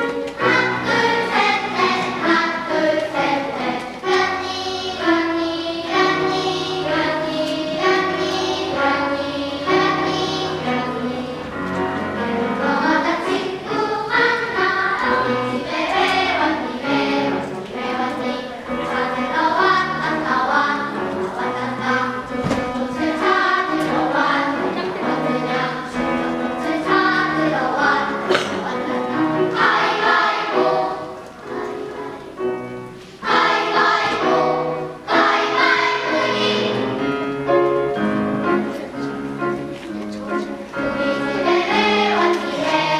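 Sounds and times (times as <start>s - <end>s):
children's choir singing: 0.0s - 42.9s.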